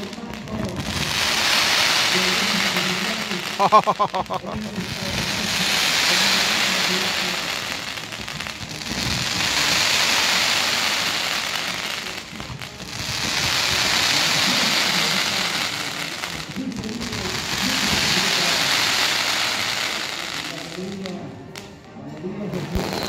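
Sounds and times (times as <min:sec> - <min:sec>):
fireworks fountain hissing: 0:00.0 - 0:21.7, 0:22.5 - 0:23.0.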